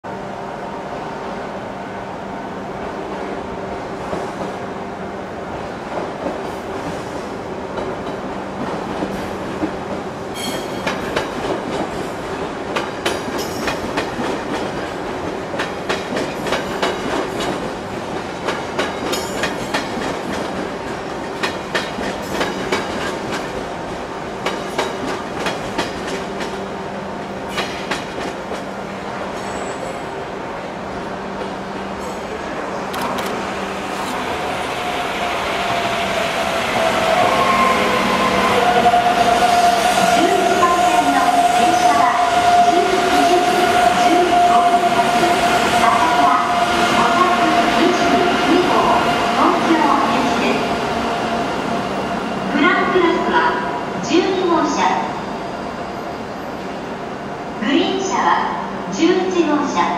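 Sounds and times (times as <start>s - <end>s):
train approaching slowly: 0.0s - 59.9s.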